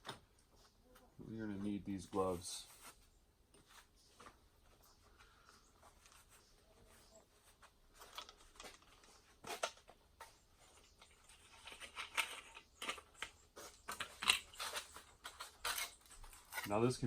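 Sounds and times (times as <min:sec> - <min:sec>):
rustling and clicks of gear: 0:02.9 - 0:17.0.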